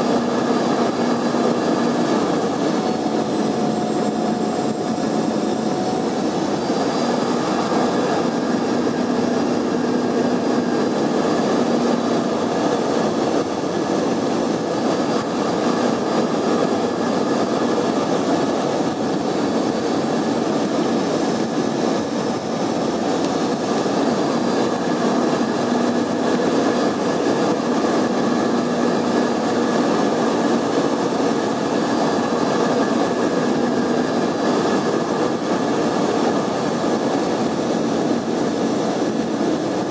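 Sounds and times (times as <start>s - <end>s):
jet engines in aircraft cabin: 0.0s - 39.9s.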